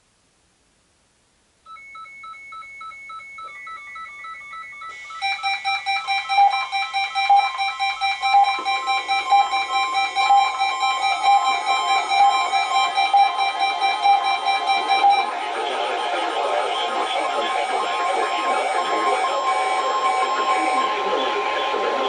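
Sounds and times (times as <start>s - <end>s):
pulsing alert tones: 2.6s - 21.7s
weather radio alert beeps: 3.0s - 21.3s.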